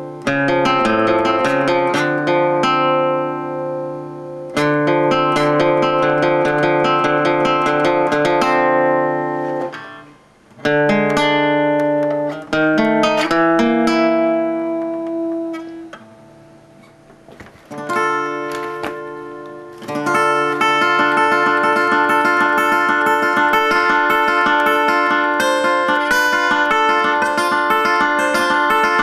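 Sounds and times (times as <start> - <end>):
plucked guitar chords: 0.0 - 29.0.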